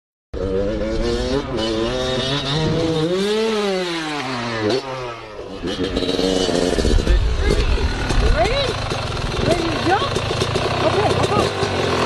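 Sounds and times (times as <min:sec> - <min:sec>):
dirt bike engine revving: 0:00.4 - 0:12.0.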